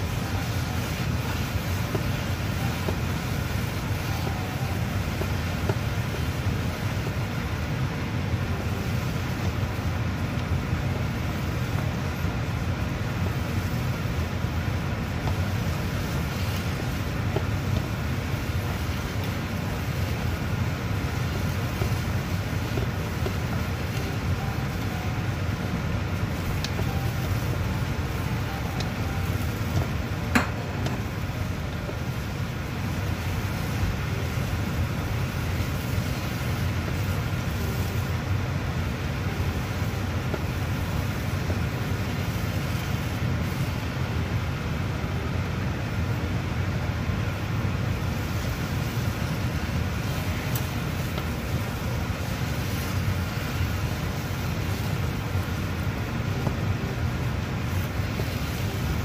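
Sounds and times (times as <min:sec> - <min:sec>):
low rumbling noise: 0:00.0 - 0:59.0.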